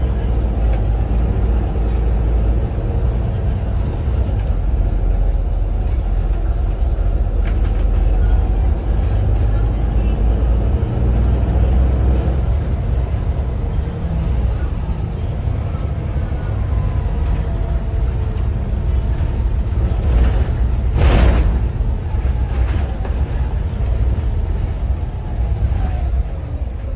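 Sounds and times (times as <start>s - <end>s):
bus diesel engine drone: 0.0s - 26.9s
road noise: 0.0s - 26.9s.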